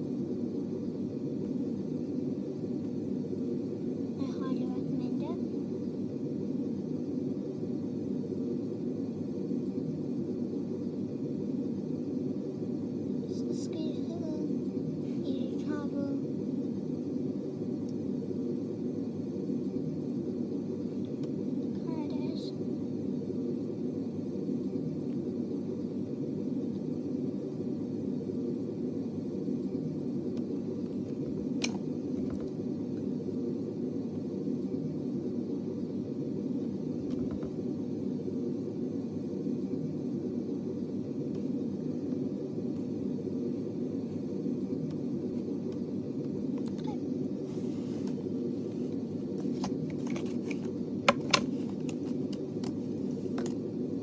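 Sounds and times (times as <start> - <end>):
steady low hum: 0.0 - 54.0
steady low rumble: 0.0 - 54.0.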